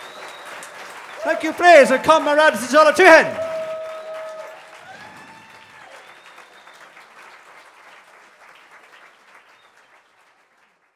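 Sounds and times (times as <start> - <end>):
audience applause: 0.0 - 10.9.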